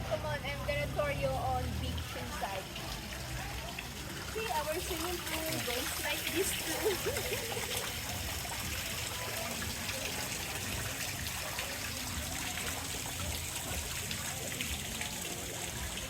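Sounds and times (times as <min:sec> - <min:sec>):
steady rain falling: 0:00.0 - 0:16.0
water trickling and dripping: 0:00.0 - 0:16.0.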